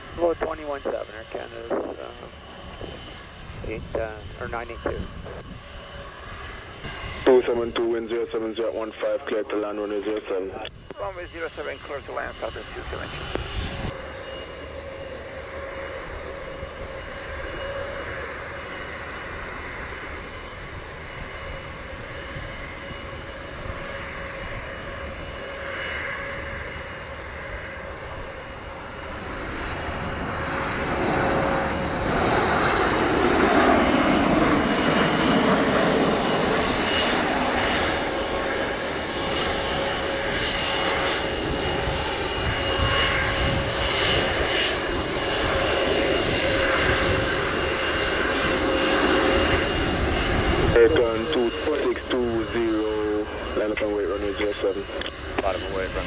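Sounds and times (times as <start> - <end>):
jet engines passing: 0.0 - 56.0.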